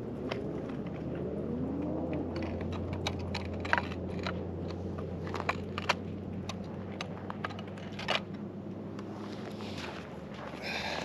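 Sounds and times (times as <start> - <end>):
sharp clicks and crackles: 0.2 - 9.1.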